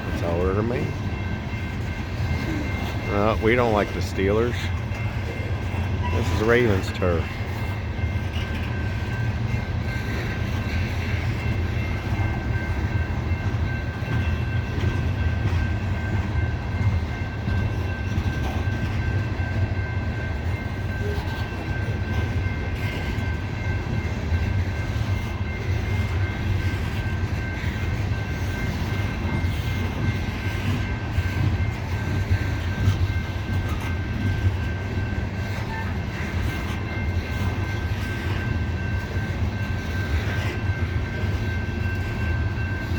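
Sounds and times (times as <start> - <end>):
steel wheels rumbling on rail: 0.0 - 42.9.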